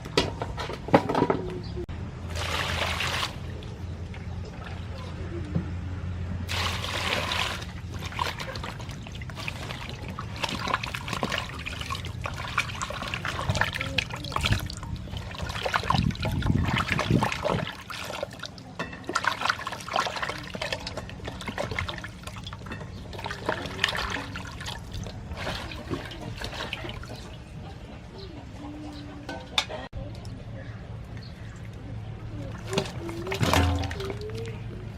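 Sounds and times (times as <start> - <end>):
water splashing and trickling: 2.2 - 5.5, 6.4 - 27.8, 30.7 - 34.9.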